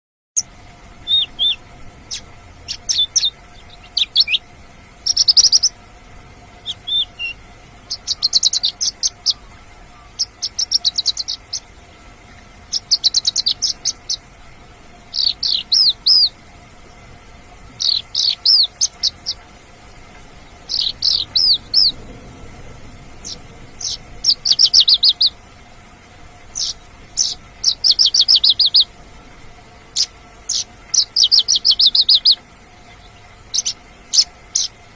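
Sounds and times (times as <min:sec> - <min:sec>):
lark singing rapid chirps: 0:00.4 - 0:25.5, 0:26.1 - 0:29.0, 0:29.8 - 0:34.9.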